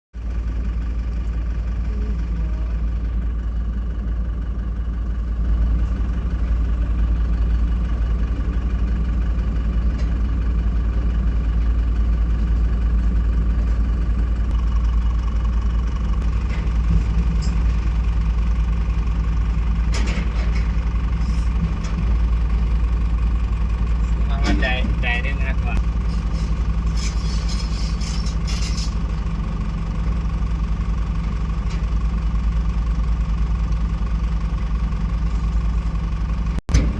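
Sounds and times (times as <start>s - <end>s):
diesel engine idling: 0.2s - 36.9s.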